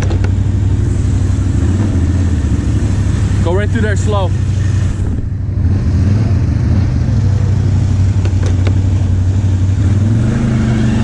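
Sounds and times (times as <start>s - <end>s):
atv engine humming: 0.0s - 11.0s.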